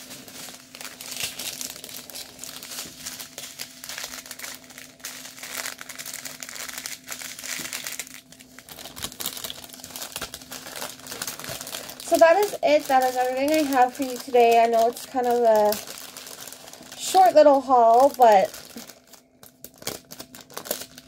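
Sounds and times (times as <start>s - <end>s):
plastic packets crinkling: 0.0s - 21.0s.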